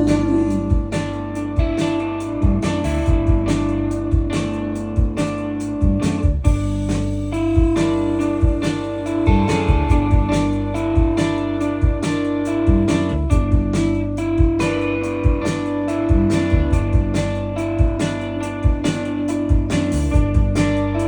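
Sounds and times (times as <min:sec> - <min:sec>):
electric bass: 0:00.0 - 0:21.0
guitars: 0:00.0 - 0:21.0
steady drum beat: 0:00.0 - 0:21.0.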